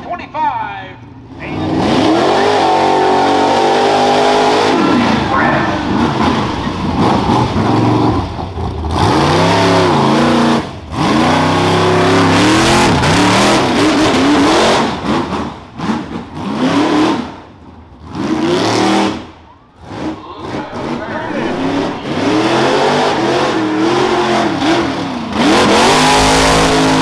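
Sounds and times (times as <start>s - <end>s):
truck engine revving: 1.0s - 27.0s.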